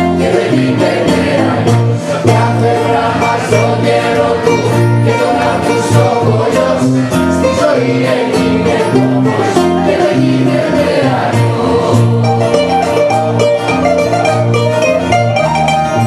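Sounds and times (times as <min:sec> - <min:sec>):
bouzouki guitar and bass band: 0:00.0 - 0:16.0.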